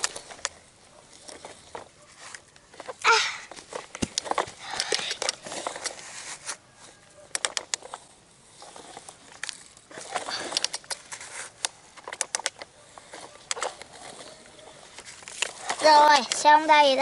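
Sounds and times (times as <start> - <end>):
small plastic clicks: 0.0 - 6.0, 7.3 - 17.0
toy bucket scraping sand: 0.0 - 7.0, 7.6 - 17.0.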